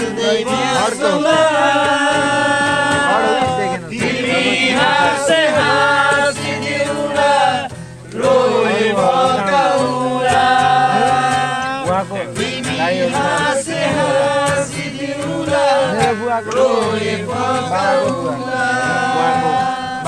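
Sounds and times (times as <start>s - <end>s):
voices singing together: 0.0s - 20.0s.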